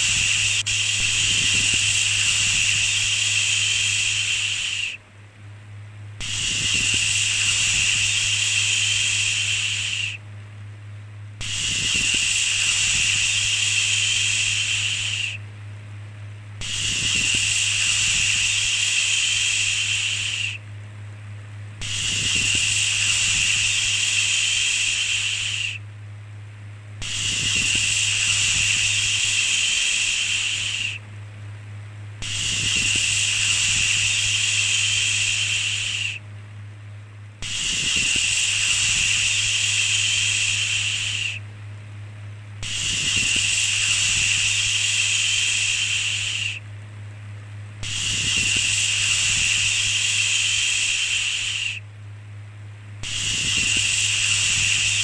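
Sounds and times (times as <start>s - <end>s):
shushing white noise: 0.0s - 55.0s
steady low hum: 0.0s - 55.0s.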